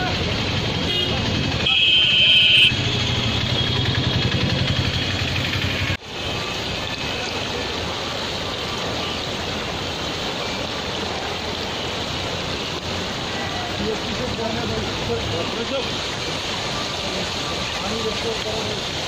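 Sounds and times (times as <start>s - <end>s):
flooded river rushing: 0.0s - 19.0s.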